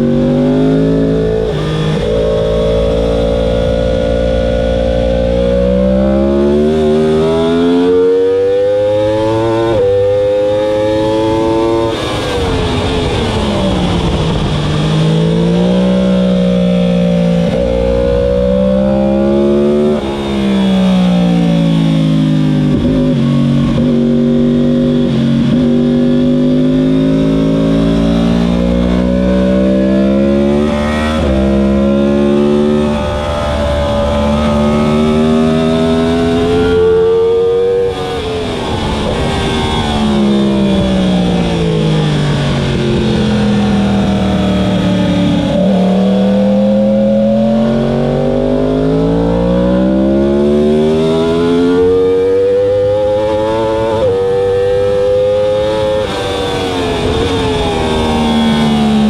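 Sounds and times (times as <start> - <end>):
motorcycle engine at racing speed: 0.0 - 59.0.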